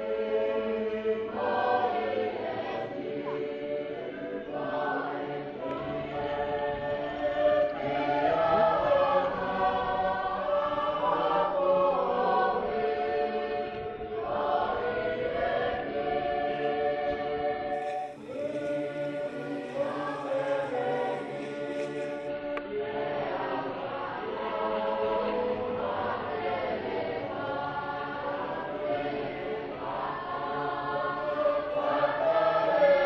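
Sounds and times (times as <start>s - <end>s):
choir singing in harmony: 0.0s - 33.0s.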